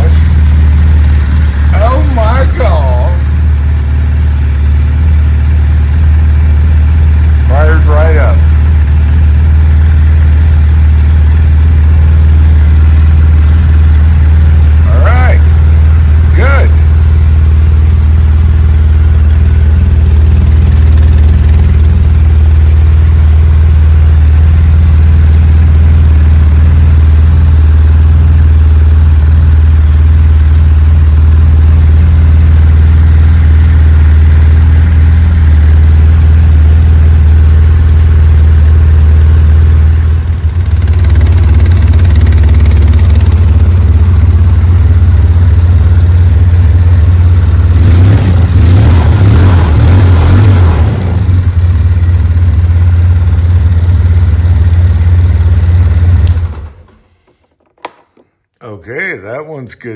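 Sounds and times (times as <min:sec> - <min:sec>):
quad engine idling: 0:00.0 - 0:57.1.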